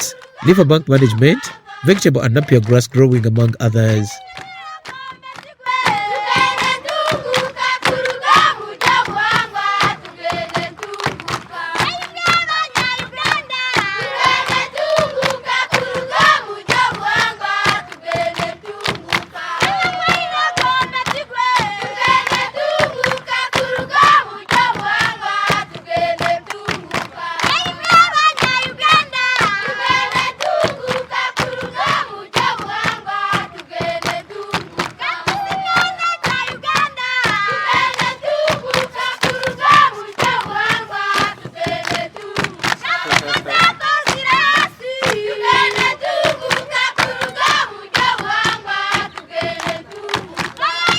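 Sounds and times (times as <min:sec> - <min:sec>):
group singing: 0:00.0 - 0:50.9
rhythmic hand clapping: 0:00.0 - 0:50.9.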